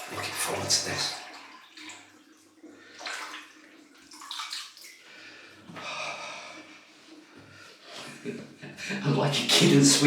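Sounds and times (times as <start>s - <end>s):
water splashing in wash basin: 0.0s - 10.0s.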